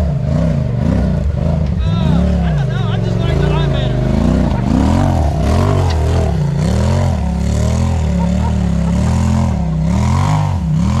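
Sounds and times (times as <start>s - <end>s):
utility vehicle engine revving: 0.0s - 11.0s.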